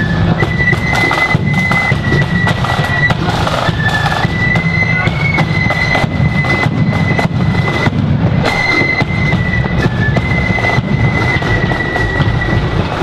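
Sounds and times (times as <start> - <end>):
flutes playing a melody: 0.0 - 13.0
snare and bass drum beats: 0.0 - 13.0.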